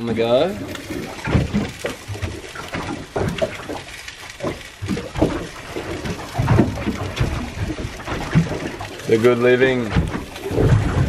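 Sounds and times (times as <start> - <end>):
small waves slapping boat hull: 0.0 - 11.0.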